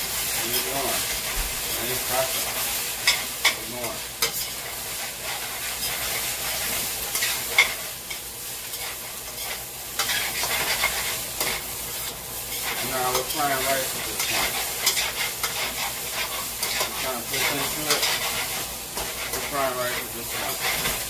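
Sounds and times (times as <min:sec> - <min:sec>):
rice sizzling in oil: 0:00.0 - 0:21.0
utensil scraping and clacking on pan: 0:00.2 - 0:21.0.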